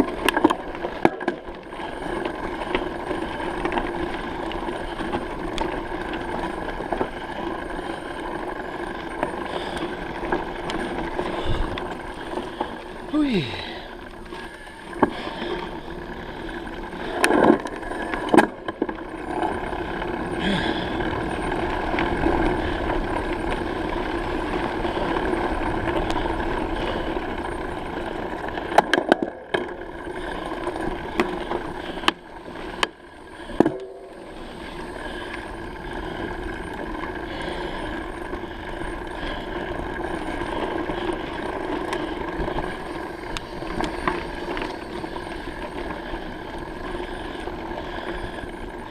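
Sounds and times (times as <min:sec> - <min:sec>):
bicycle tyre and wind noise: 0:00.0 - 0:48.9.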